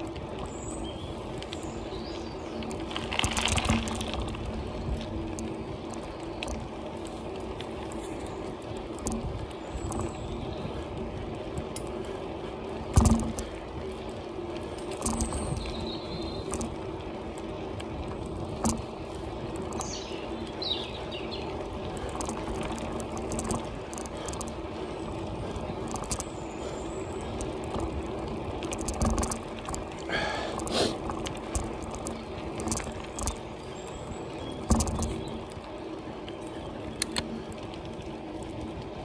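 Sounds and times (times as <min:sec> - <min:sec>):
bicycle tyre and drivetrain noise: 0:00.0 - 0:39.0
bike clicks and rattles: 0:00.0 - 0:39.0.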